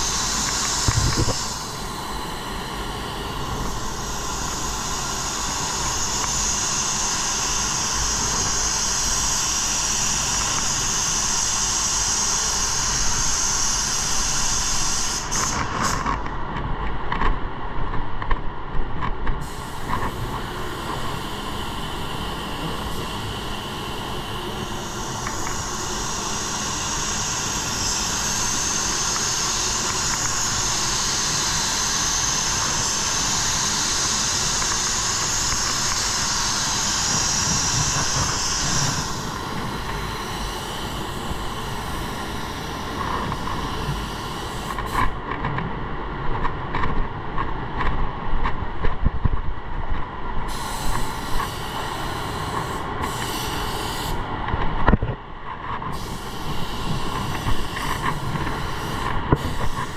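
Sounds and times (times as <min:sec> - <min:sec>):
paint spray gun hissing: 0:00.0 - 0:16.0, 0:19.4 - 0:45.2, 0:50.5 - 0:54.3, 0:55.9 - 0:59.9
background drone: 0:00.0 - 0:59.9.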